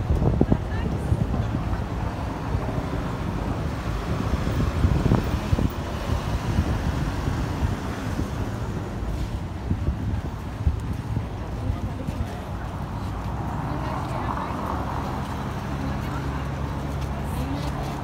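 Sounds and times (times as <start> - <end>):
cars passing: 0.0 - 18.0
wind buffeting microphone: 0.0 - 18.0.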